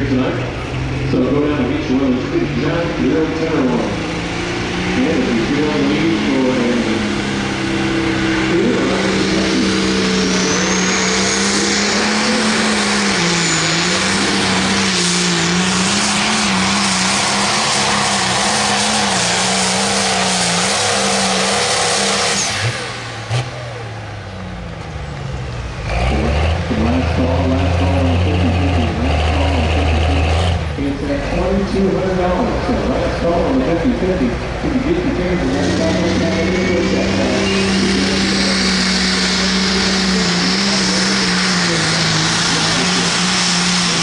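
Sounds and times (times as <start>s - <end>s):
deep engine low drone: 0.0s - 44.0s
diesel engine at full throttle: 0.0s - 44.0s.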